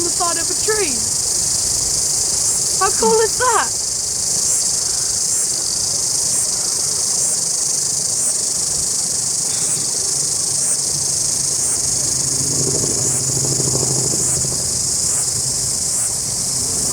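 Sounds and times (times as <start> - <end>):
cicadas singing: 0.0 - 16.9.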